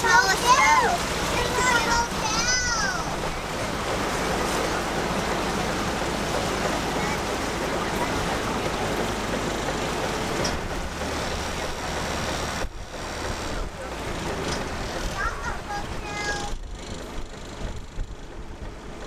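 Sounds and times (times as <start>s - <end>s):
boat engine hum: 0.0s - 19.0s
water rushing along hull: 0.0s - 19.0s.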